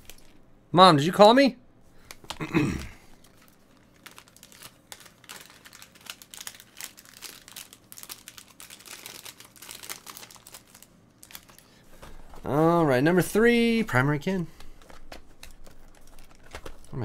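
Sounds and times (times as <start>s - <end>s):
card pack wrapper crinkling: 0.0s - 0.4s, 2.0s - 2.4s, 3.1s - 17.0s.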